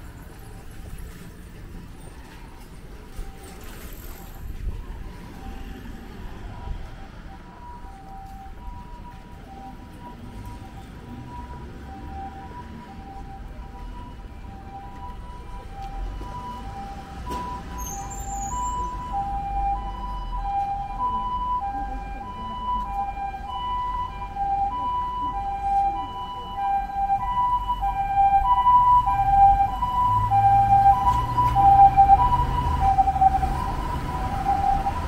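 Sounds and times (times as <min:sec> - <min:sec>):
two-tone ambulance siren: 0:03.1 - 0:35.0.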